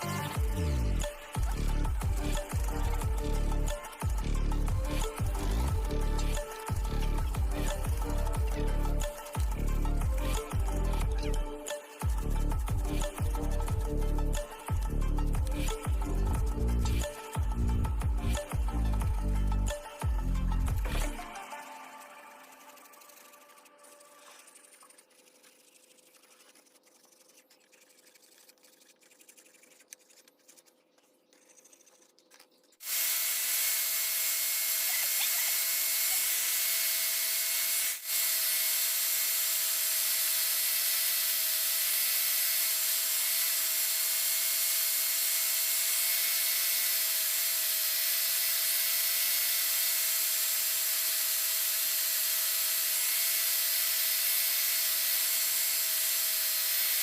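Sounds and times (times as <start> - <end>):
electric abrasive power tool: 0.0 - 26.6, 32.8 - 57.0.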